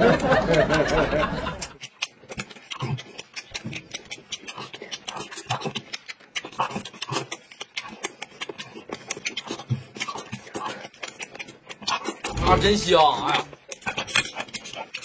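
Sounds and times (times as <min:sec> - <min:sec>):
man chewing with wet smacking: 0:00.0 - 0:15.0
mouth clicks: 0:00.0 - 0:15.0.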